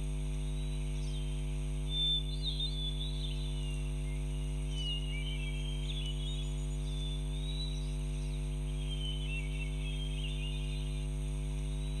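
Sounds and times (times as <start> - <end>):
steady low hum: 0.0 - 12.0
birds chirping: 0.4 - 12.0.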